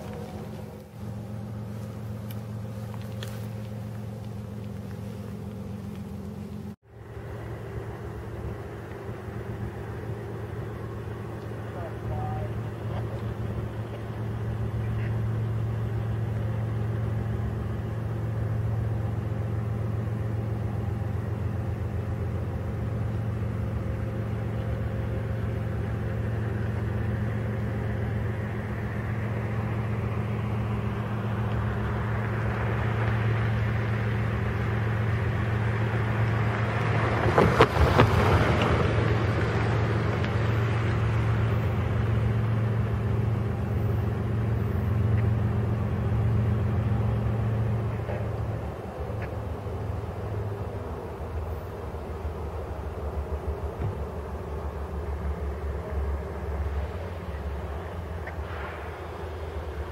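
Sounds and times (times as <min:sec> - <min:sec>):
locomotive engine hum: 0:00.0 - 0:59.9
train rumbling over rails: 0:00.0 - 0:59.9.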